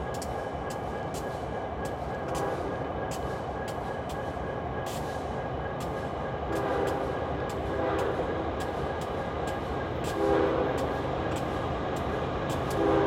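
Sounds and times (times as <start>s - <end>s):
diesel locomotive engine rumbling: 0.0s - 13.0s
wheels clicking on track: 0.0s - 13.0s.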